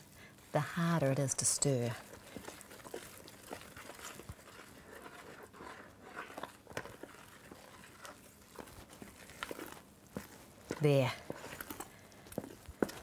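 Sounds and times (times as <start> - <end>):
spoon stirring dough in bowl: 1.0 - 13.0.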